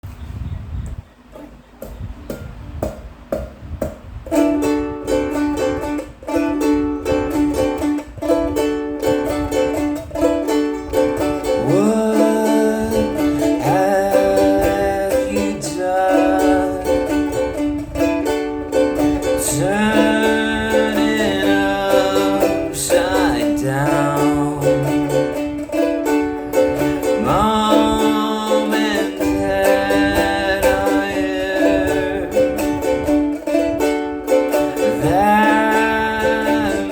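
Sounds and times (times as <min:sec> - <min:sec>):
plucked string instrument strummed: 0:04.3 - 0:36.9.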